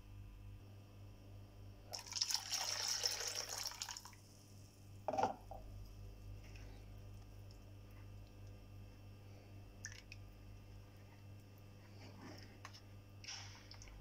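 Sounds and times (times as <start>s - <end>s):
steady low hum: 0.0s - 2.0s, 4.1s - 14.0s.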